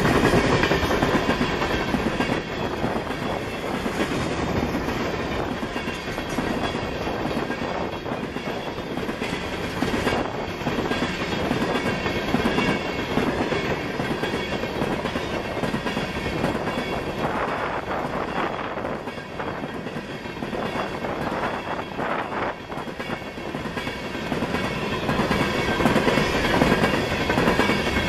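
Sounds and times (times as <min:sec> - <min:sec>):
freight train rumbling past: 0:00.0 - 0:28.0
wheels clacking over rail joints: 0:00.0 - 0:28.0.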